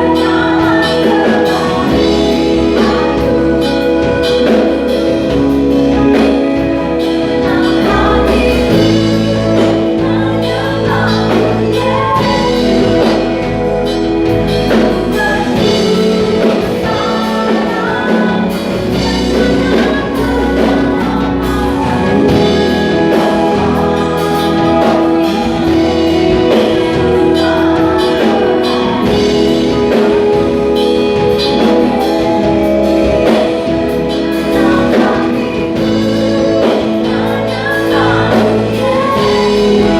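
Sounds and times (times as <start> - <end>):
person singing: 0.0 - 39.9
worship band playing: 0.0 - 39.9.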